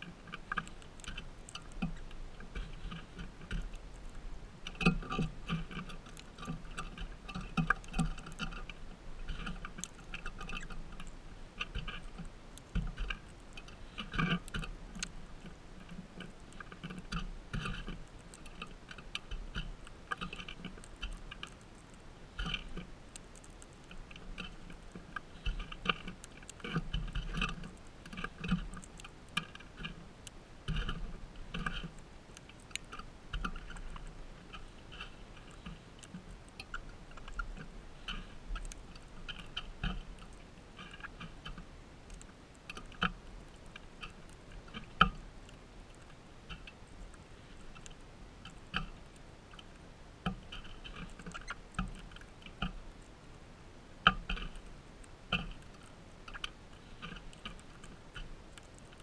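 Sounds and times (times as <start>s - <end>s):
birds cracking seeds: 0.0s - 59.0s.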